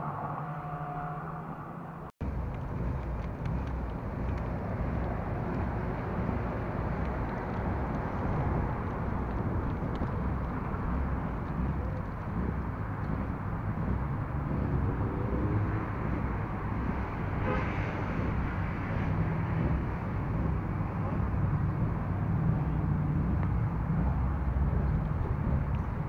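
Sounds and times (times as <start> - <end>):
car engine low drone: 0.0 - 26.0.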